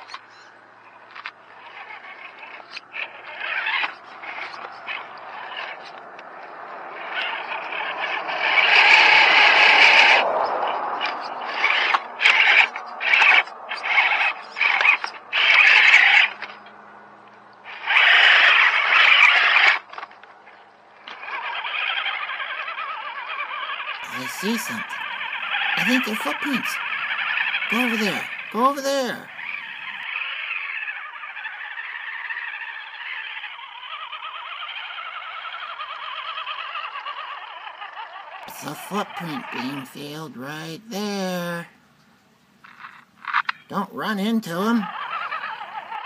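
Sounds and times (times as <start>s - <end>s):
rc car motor whirring: 1.0s - 16.7s, 17.7s - 28.6s, 29.3s - 39.5s, 44.9s - 46.0s.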